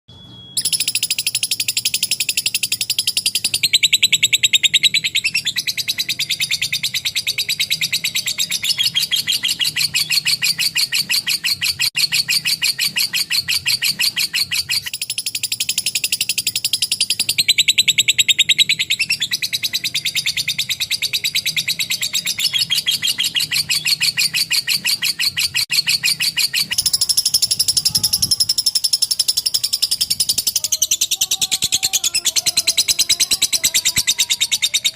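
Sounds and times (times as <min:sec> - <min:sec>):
lovebird high-pitched chatter: 0:00.6 - 0:34.9.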